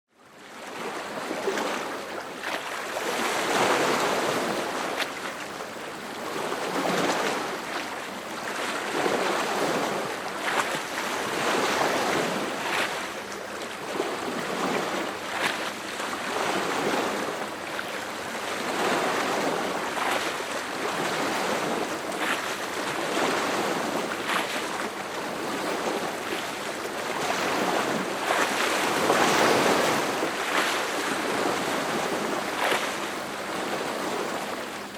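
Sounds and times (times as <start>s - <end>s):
lake waves lapping on shore: 0.3s - 34.9s.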